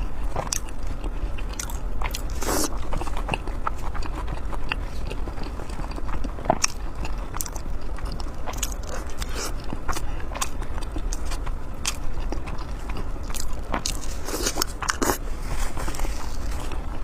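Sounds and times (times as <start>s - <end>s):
biting and chewing food: 0.0s - 17.0s
low hum: 0.0s - 17.0s.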